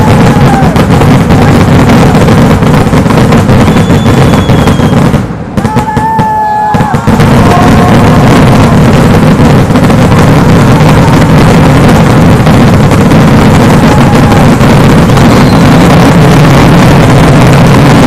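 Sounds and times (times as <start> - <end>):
firework whistle: 0.0 - 18.0
rockets and firecrackers exploding: 0.0 - 18.0.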